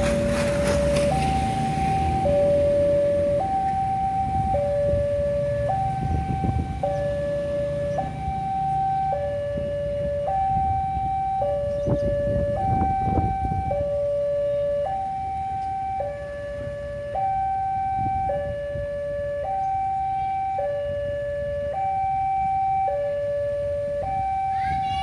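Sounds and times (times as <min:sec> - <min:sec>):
level crossing two-tone alarm: 0:00.6 - 0:25.0.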